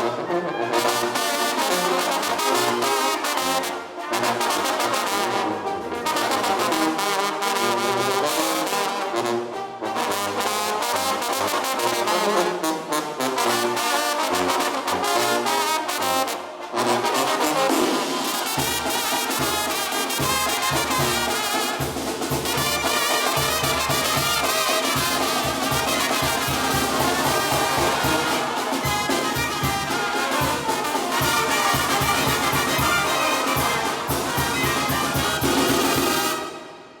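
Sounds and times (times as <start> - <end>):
trumpets and trombones melody: 0.0 - 37.0.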